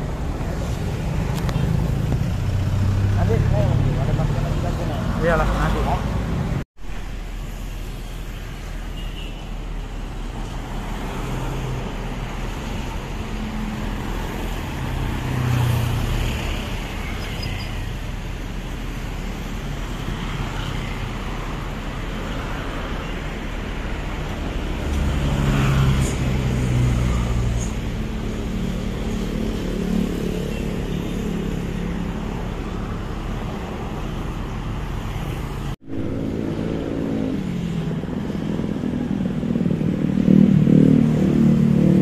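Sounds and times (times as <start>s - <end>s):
motor vehicles passing: 0.0s - 6.6s, 9.6s - 42.0s
steady traffic rumble: 0.0s - 42.0s.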